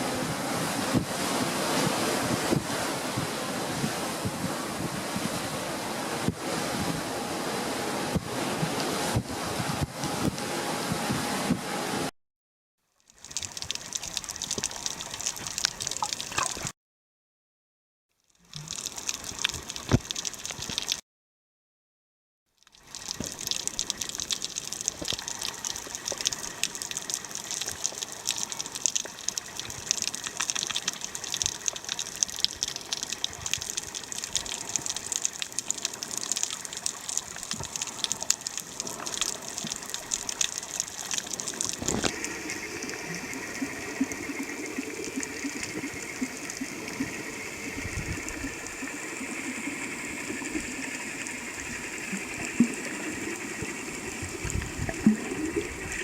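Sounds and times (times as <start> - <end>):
water rushing and splashing: 0.0 - 12.1, 13.2 - 16.7, 22.8 - 56.0.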